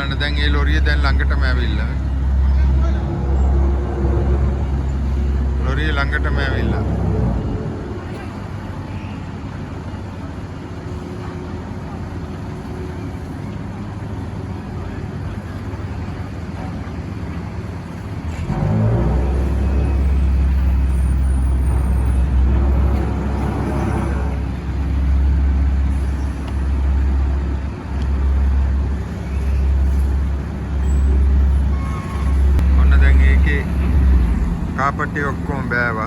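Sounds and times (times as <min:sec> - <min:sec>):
deep rumble: 0:00.0 - 0:36.0
diesel lorry engine running: 0:00.0 - 0:36.0.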